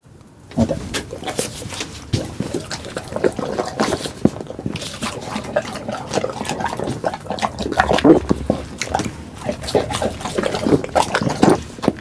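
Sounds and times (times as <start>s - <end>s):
dog chewing and slurping: 0.5s - 12.0s.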